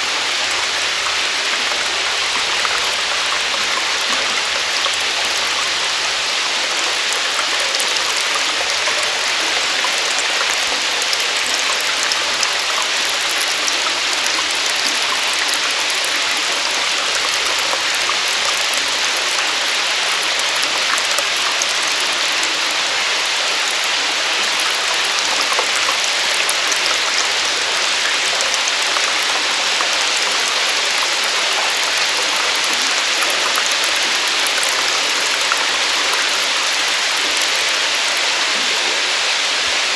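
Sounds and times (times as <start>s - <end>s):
waterfall splashing in a cave: 0.0s - 39.9s.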